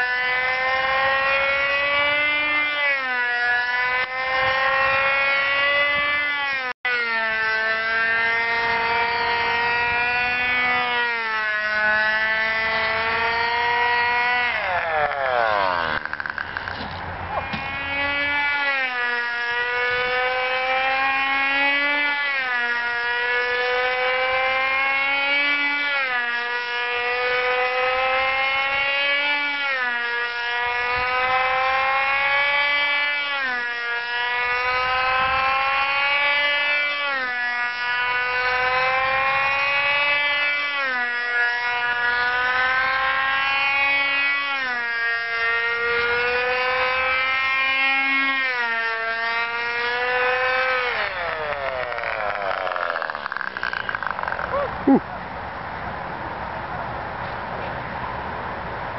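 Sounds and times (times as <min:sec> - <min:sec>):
model airplane engine buzzing: 0:00.0 - 0:55.2.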